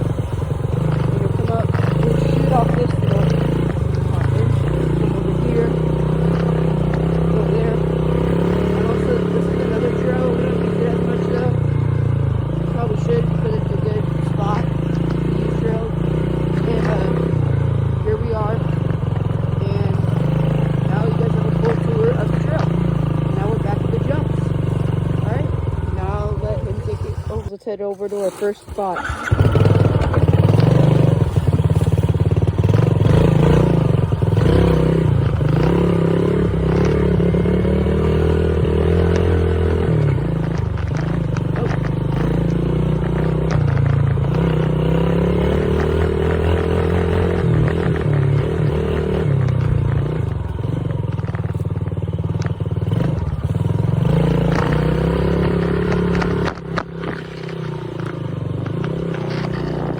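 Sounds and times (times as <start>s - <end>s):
dirt bike motor: 0.0s - 59.9s.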